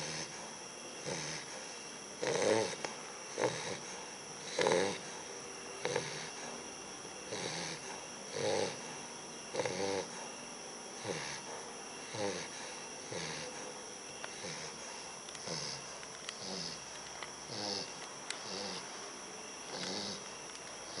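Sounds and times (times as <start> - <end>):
puppy snoring: 0.0 - 21.0.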